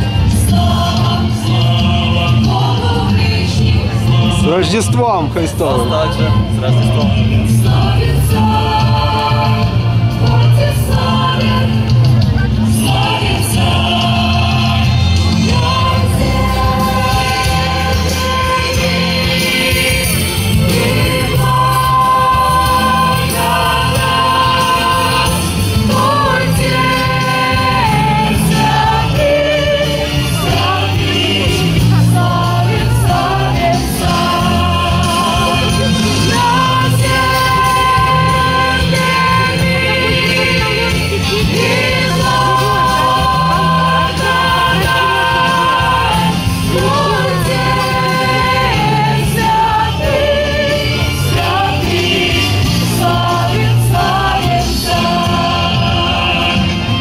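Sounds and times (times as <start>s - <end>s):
choir of women singing: 0.0s - 4.5s, 5.7s - 57.0s.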